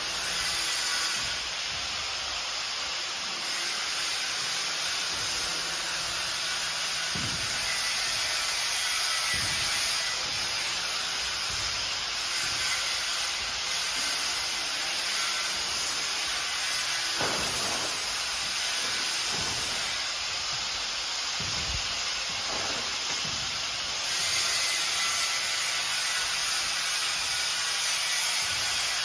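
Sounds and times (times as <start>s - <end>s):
steady even hiss: 0.0s - 29.0s.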